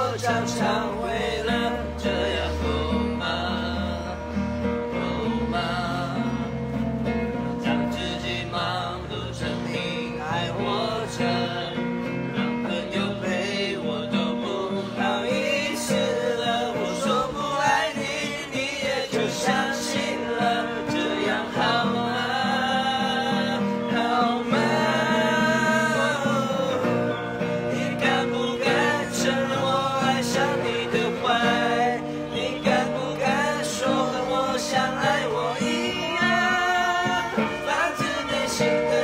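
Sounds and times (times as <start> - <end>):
acoustic guitar strumming: 0.0 - 39.0
group of voices singing: 0.0 - 39.0.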